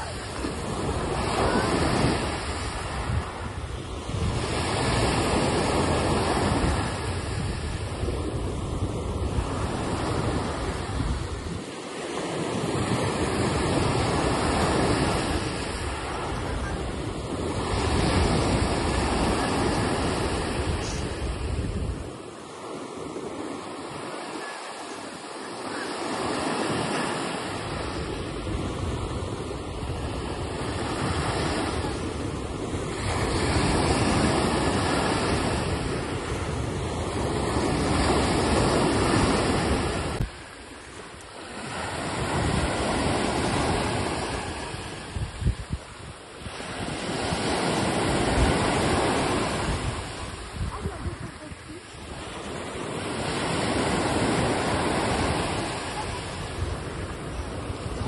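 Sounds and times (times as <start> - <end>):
wind buffeting microphone: 0.0 - 24.4, 25.0 - 58.0
sea waves washing onto shore: 0.0 - 58.0.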